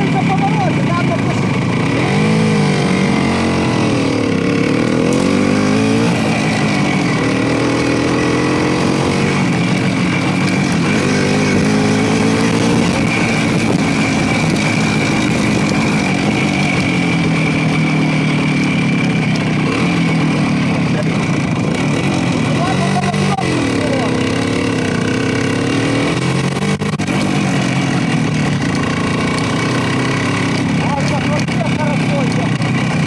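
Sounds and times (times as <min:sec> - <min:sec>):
motorcycle engine revving: 0:00.0 - 0:33.0
steady rushing noise: 0:00.0 - 0:33.0.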